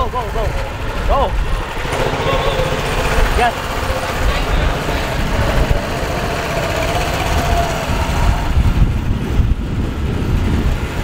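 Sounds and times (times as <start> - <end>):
faint rising engine tone: 0.0 - 9.1
small petrol engine running: 0.0 - 10.9.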